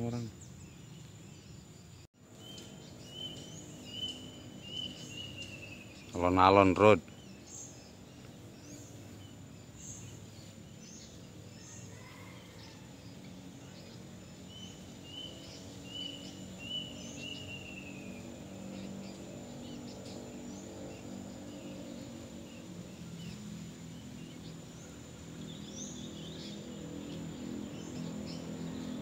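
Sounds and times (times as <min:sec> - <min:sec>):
birds chirping: 0:00.0 - 0:29.0
high insect whine: 0:00.0 - 0:29.0.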